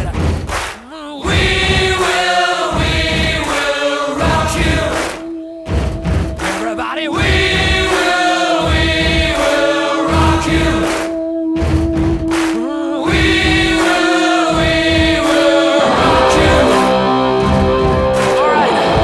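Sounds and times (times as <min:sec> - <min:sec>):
choir singing: 0:01.2 - 0:19.0
held steady note: 0:01.3 - 0:19.0.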